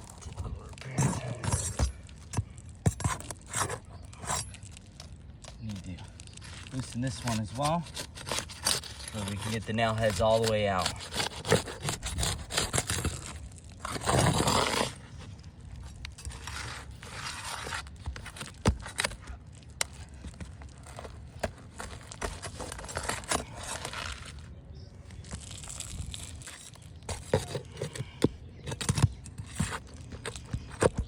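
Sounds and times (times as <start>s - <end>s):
shingles scraping and tearing: 0.0s - 31.0s.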